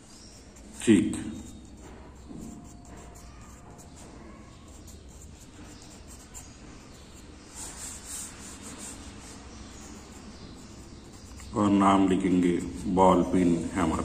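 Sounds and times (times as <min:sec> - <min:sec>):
pencil writing on paper: 0:00.0 - 0:13.4.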